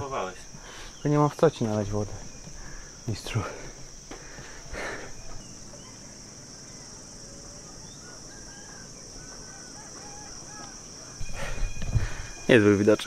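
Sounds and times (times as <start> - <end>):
faint bird chirps: 0.0 - 13.0
high-pitched insect drone: 0.0 - 13.0.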